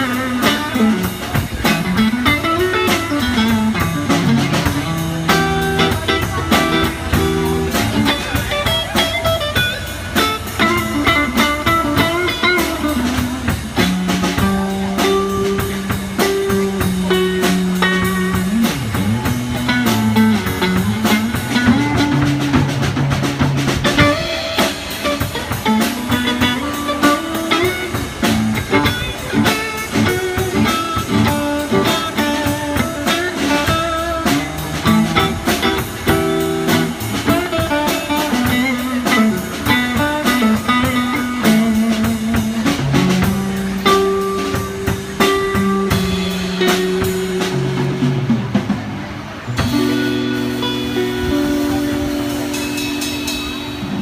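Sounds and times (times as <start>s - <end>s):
blues guitar with bent notes: 0.0s - 54.0s
steady drum beat: 0.0s - 54.0s.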